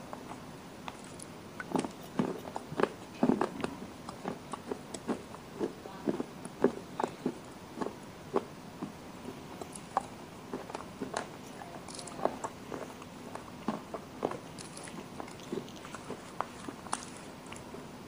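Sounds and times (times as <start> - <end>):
crisp chewing crunches: 0.0 - 17.9.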